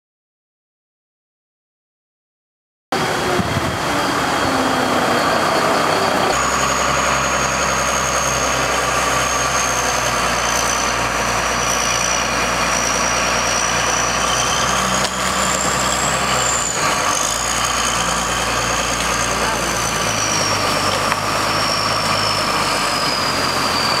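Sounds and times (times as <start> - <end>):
diesel engine running with whine: 2.9 - 24.0.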